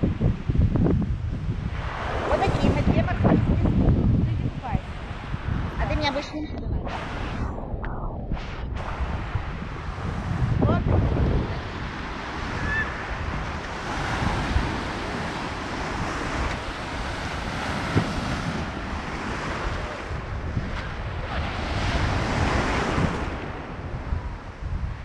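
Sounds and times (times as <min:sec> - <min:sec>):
surf washing up a beach: 0:00.0 - 0:07.5, 0:08.4 - 0:25.0
wind buffeting microphone: 0:00.0 - 0:25.0.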